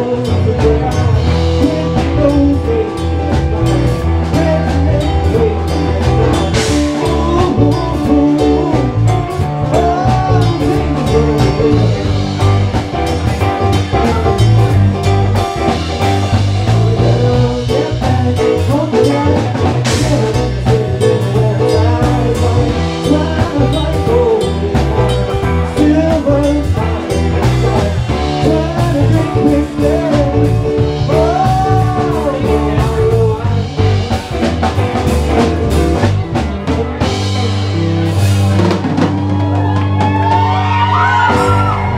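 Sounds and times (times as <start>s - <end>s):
drum kit: 0.0s - 41.9s
electric guitar: 0.0s - 41.9s
heavy bass line: 0.0s - 41.9s
keyboard: 0.0s - 41.9s.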